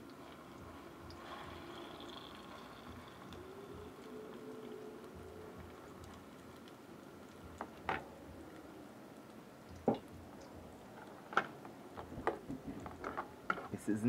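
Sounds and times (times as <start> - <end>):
omelette sizzling in oil: 0.0 - 14.0.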